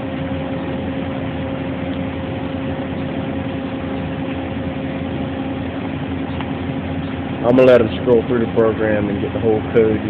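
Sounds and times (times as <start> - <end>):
constant low whine: 0.0 - 10.0
machinery hum: 0.0 - 10.0.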